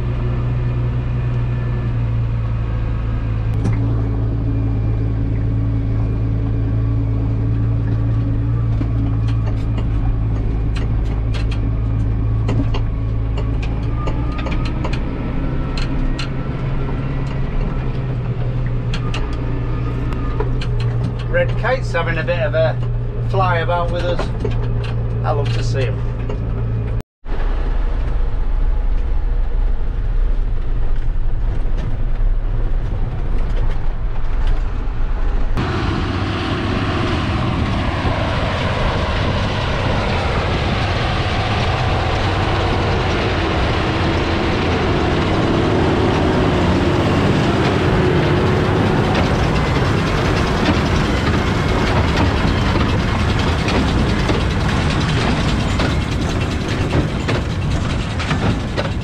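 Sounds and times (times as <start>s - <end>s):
tractor engine drone: 0.0s - 59.0s
baler mechanical clatter: 3.5s - 35.7s, 37.4s - 59.0s.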